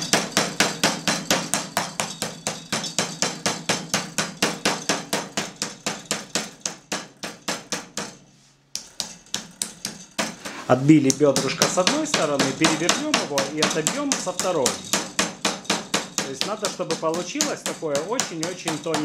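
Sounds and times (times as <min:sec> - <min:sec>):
meat mallet pounding chicken: 0:00.0 - 0:08.2, 0:08.8 - 0:19.0.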